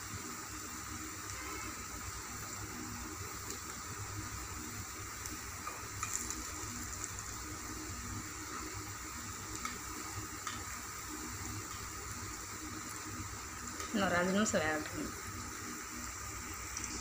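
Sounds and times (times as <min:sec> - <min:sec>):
oil sizzling and bubbling: 0:00.0 - 0:17.0.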